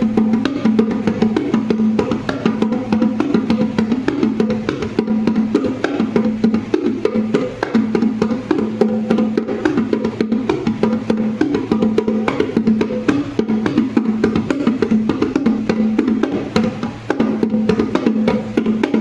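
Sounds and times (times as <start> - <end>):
rapid percussive tapping and knocking: 0.0 - 19.0.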